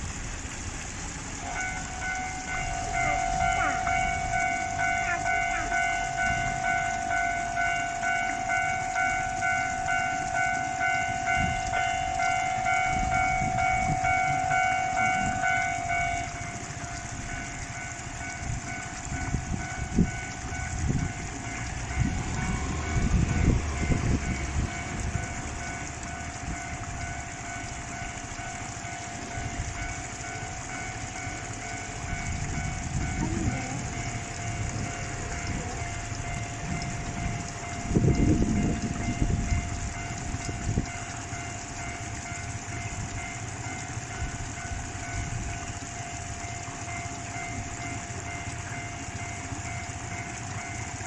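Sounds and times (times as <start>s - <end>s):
low rumbling: 0.0s - 51.0s
level-crossing bell clanging: 1.4s - 40.2s, 40.8s - 51.0s.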